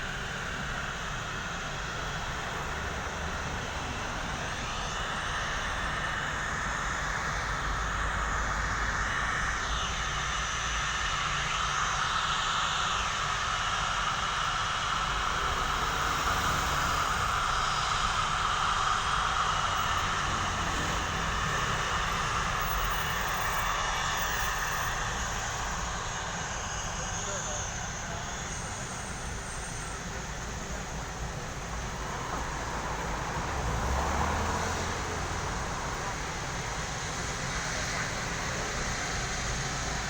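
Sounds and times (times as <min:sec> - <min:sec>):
airliner engines roaring: 0:00.0 - 0:40.0.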